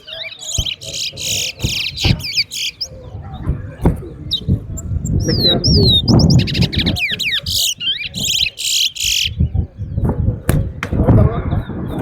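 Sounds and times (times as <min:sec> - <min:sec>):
finch singing whistled trills: 0:00.0 - 0:10.0
low crowd murmur: 0:00.0 - 0:12.0.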